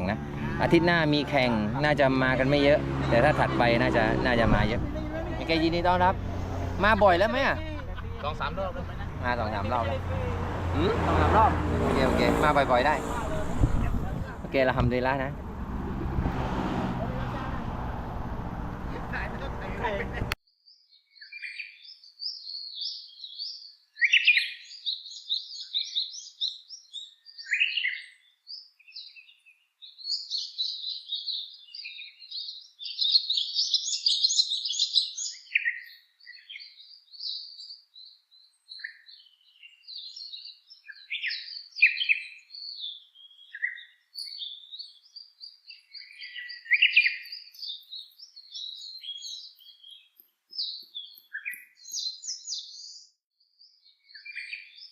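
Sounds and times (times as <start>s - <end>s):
birds chirping and trilling: 0.0s - 13.4s, 17.9s - 54.9s.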